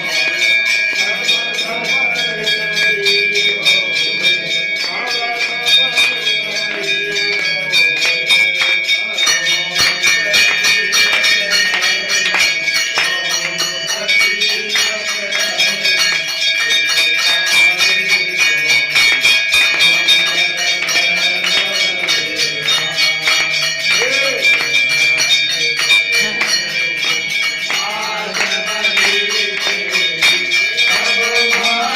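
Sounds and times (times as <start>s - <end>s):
bells rung rapidly: 0.0s - 31.9s
voices singing: 0.0s - 31.9s.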